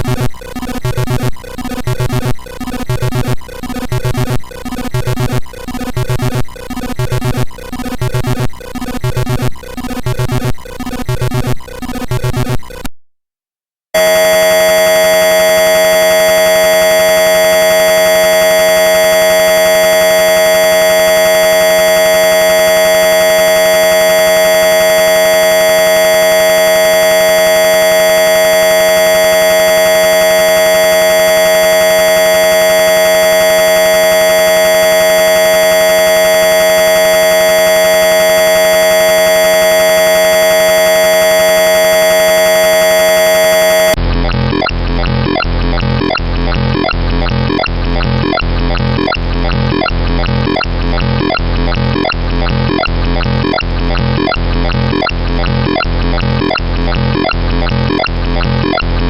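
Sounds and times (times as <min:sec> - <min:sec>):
harsh buzzy electronic tone: 0:00.0 - 0:12.9, 0:14.0 - 0:59.0.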